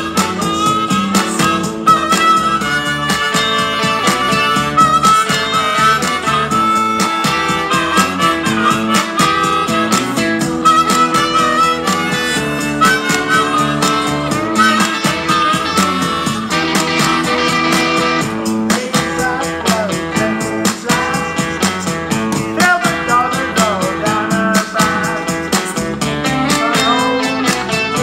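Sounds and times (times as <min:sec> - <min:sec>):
amplified blues harmonica: 0:00.0 - 0:28.0
blues backing with steady beat: 0:00.0 - 0:28.0.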